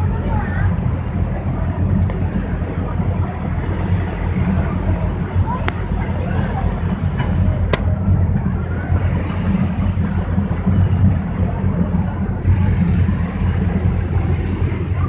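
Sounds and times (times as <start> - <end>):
motorboat engine rumble: 0.0 - 15.0.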